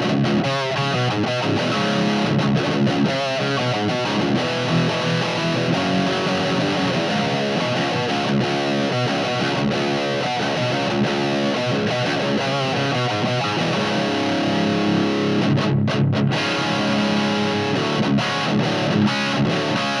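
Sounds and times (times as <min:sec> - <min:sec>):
distorted electric guitar riff: 0:00.0 - 0:20.0.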